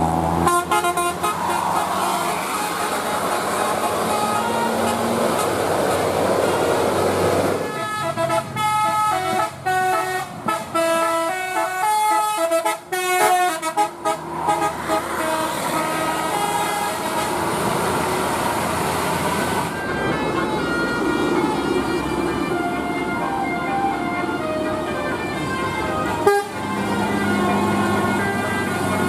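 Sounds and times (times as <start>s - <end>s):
bus multi-tone horn tune: 0.0s - 29.0s.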